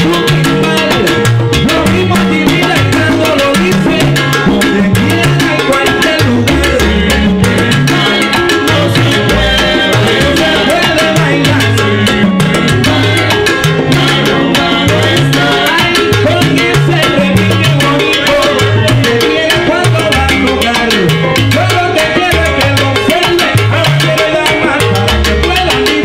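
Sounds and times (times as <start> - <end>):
bass line: 0.0 - 26.0
latin percussion strokes: 0.0 - 26.0
salsa band playing: 0.0 - 26.0.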